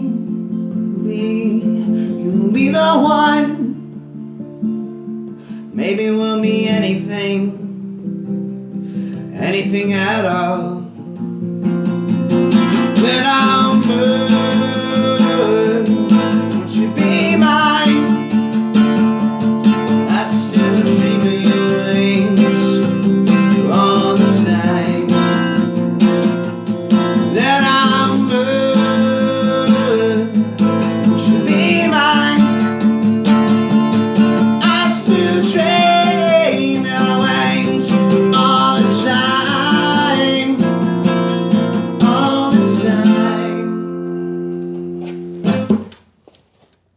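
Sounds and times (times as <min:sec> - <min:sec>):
acoustic guitar strummed and picked: 0:00.0 - 0:46.9.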